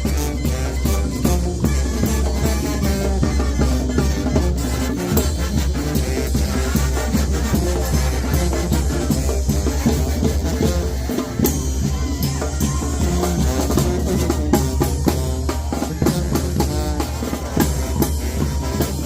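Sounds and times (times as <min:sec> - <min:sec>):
bass drum beats: 0:00.0 - 0:19.0
brass band playing: 0:00.0 - 0:19.0.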